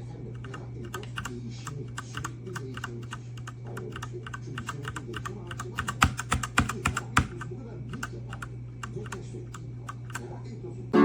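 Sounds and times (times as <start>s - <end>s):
steady low hum: 0.0s - 11.0s
mechanical keyboard key clicks: 0.4s - 9.2s, 9.9s - 10.2s.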